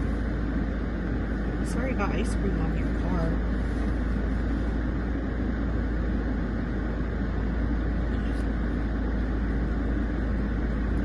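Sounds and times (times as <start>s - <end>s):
car cabin low rumble: 0.0s - 11.0s.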